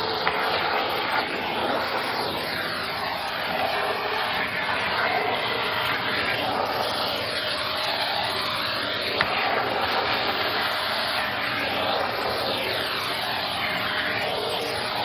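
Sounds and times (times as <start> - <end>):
vacuum cleaner running on carpet: 0.0 - 15.0.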